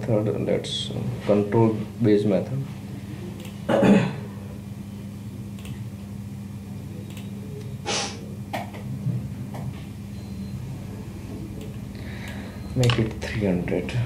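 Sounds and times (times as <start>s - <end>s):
low recording hum: 0.0s - 14.0s.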